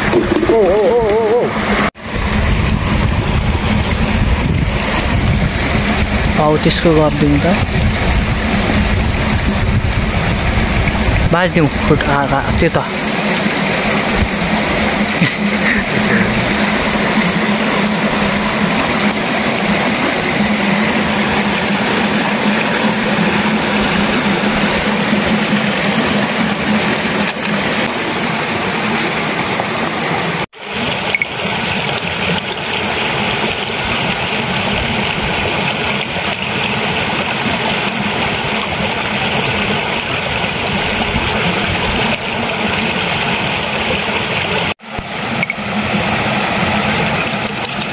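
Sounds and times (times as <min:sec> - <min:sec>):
mountain stream rushing: 0:00.0 - 0:47.9.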